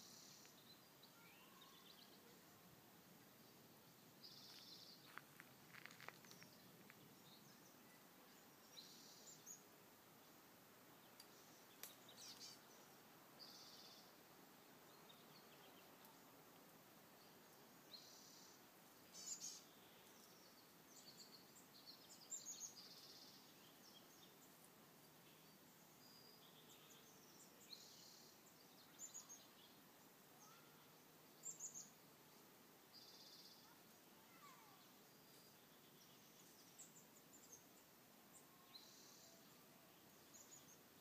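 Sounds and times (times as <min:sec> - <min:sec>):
faint steady hiss: 0:00.0 - 0:41.0
small birds chirping: 0:00.0 - 0:41.0.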